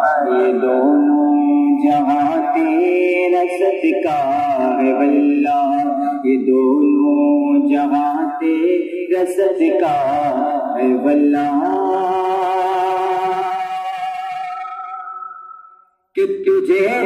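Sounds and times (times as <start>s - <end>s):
man singing devotional song: 0.0s - 14.7s, 16.2s - 17.0s.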